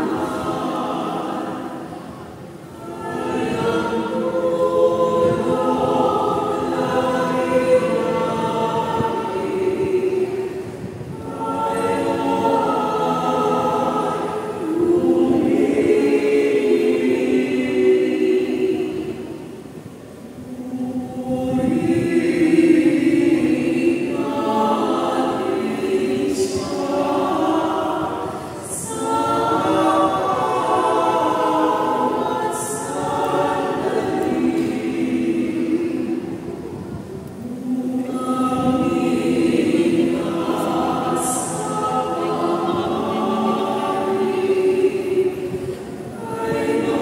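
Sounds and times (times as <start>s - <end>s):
mixed choir singing a hymn: 0.0s - 47.0s.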